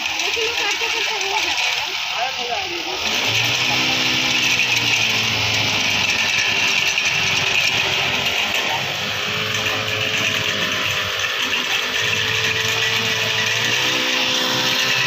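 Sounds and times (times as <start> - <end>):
small engine running at high speed: 0.0 - 15.0
tiller tines churning soil: 0.0 - 15.0.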